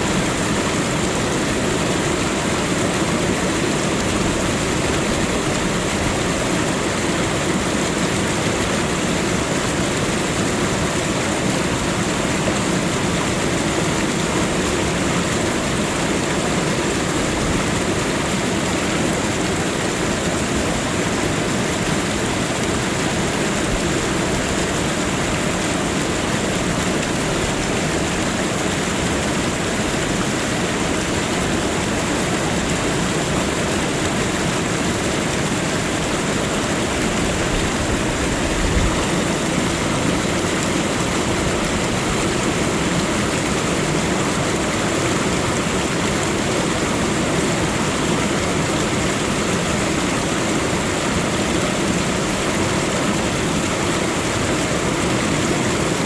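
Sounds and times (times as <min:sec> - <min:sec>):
waterfall pouring and splashing: 0:00.0 - 0:56.0.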